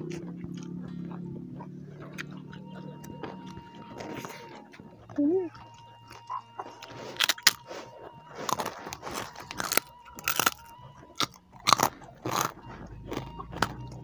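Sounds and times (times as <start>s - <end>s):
crunchy bites and chewing: 0.0s - 14.0s.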